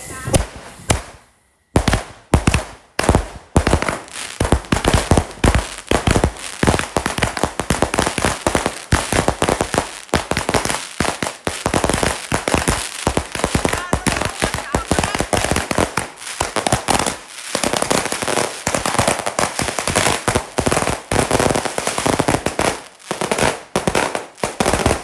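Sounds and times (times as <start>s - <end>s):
firework cakes firing: 0.0s - 25.0s.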